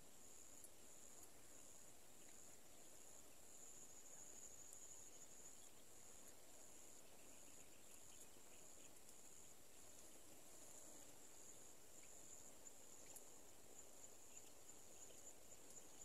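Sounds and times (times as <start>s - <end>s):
faint ticks: 0.0s - 16.0s.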